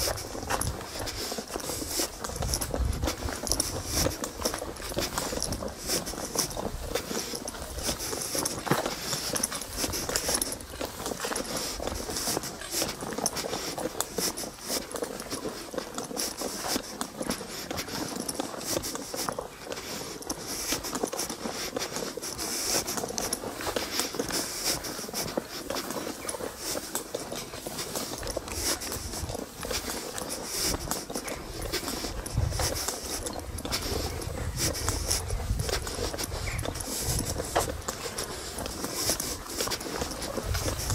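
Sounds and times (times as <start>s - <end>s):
footsteps crunching on gravel: 0.0s - 40.9s.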